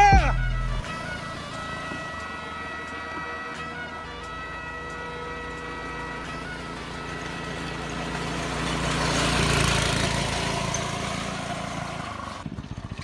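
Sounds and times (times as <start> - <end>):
go-kart engine driving by: 0.0 - 13.0.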